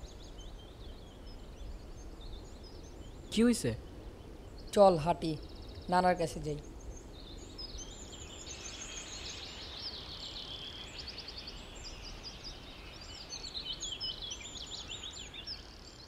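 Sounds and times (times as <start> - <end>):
birds chirping and trilling: 0.0 - 16.0
low outdoor background rumble: 0.0 - 16.0.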